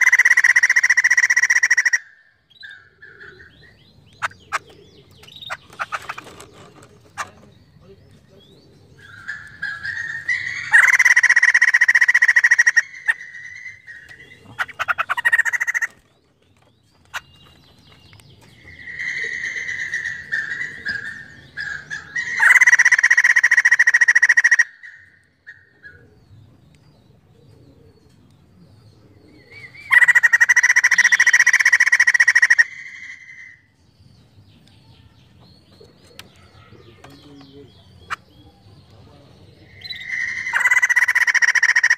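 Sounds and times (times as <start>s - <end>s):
bird singing: 0.0s - 41.9s.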